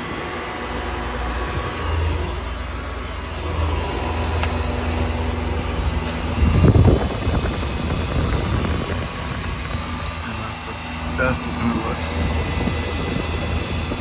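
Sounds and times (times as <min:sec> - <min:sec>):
refrigeration unit humming: 0:00.0 - 0:14.0.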